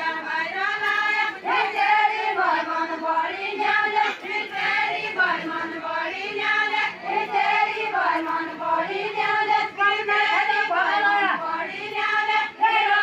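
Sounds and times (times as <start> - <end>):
women singing unaccompanied: 0.0 - 13.0.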